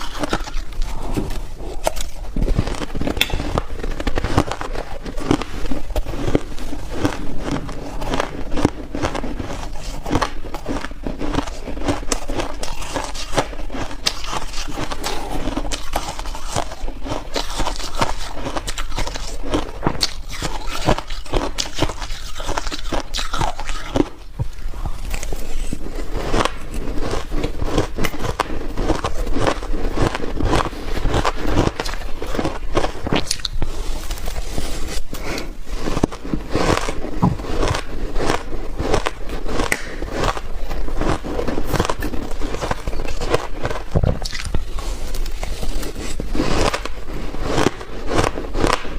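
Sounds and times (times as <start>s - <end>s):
chewing crunchy ice: 0.0s - 48.9s.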